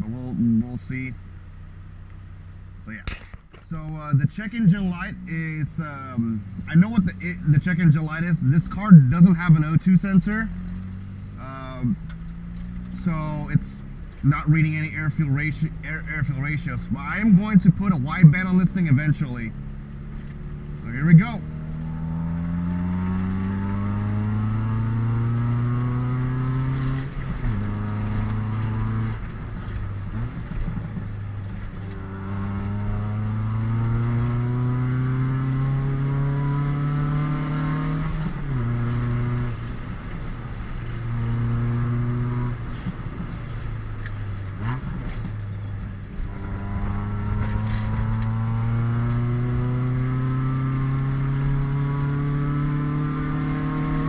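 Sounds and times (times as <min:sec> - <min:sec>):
car engine revving through gears: 0:03.7 - 0:54.0.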